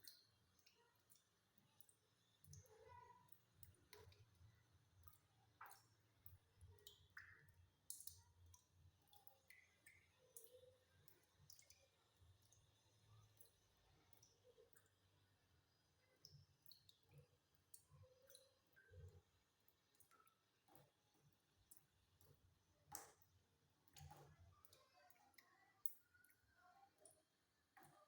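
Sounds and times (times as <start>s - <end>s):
faint irregular clicks: 0.0s - 15.3s, 15.9s - 28.0s.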